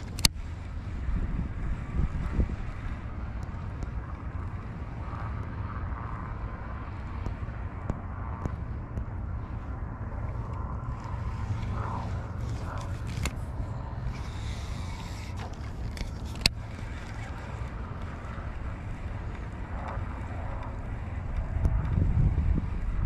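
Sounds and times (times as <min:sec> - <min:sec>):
light ticks: 0:00.0 - 0:00.4, 0:02.8 - 0:23.0
faint steady hum: 0:00.0 - 0:23.0
wind buffeting microphone: 0:00.0 - 0:23.0.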